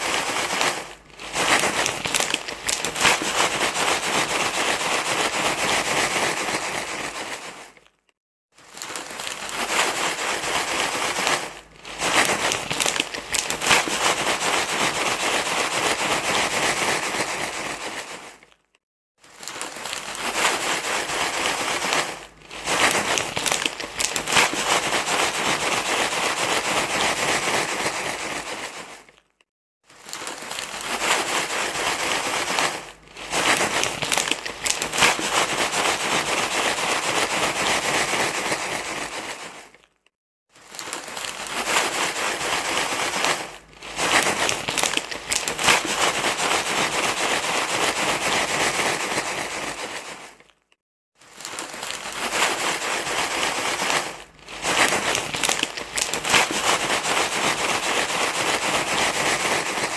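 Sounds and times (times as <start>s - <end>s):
continuous crinkling rustle: 0.0s - 59.9s.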